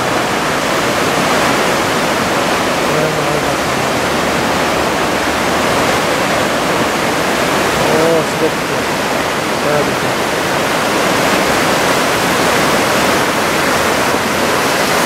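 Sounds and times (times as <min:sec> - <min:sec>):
heavy surf breaking: 0:00.0 - 0:15.0.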